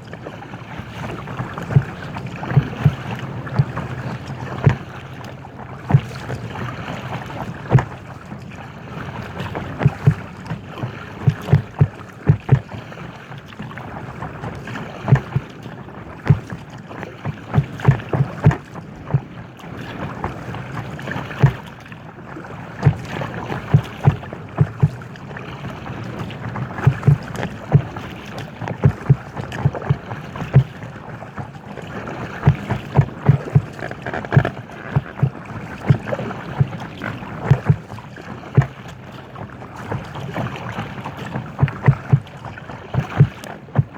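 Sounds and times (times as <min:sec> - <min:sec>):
water slapping kayak hull: 0:00.0 - 0:43.9.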